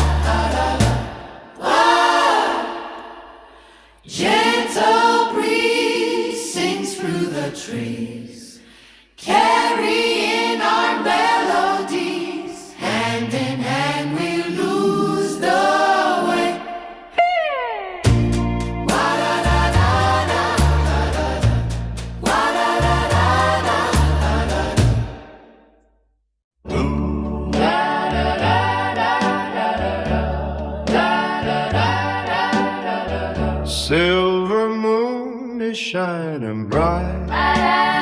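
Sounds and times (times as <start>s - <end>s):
vocal group singing a cappella: 0.0s - 17.2s, 18.1s - 25.6s, 26.7s - 38.0s.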